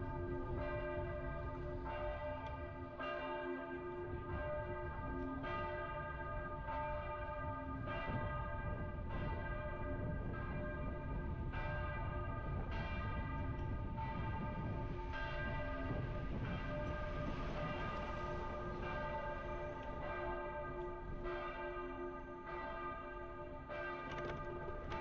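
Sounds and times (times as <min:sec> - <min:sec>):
church bells ringing: 0:00.0 - 0:25.0
low rumble of street noise: 0:00.0 - 0:25.0.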